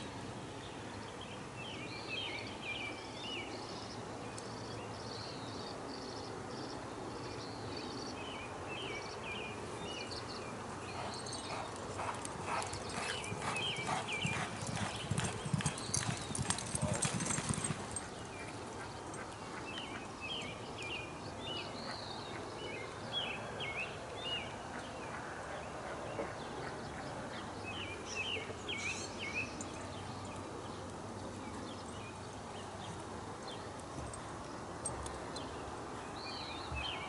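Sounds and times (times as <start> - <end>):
low background noise: 0.0 - 37.0
small birds chirping: 0.6 - 24.6, 26.1 - 37.0.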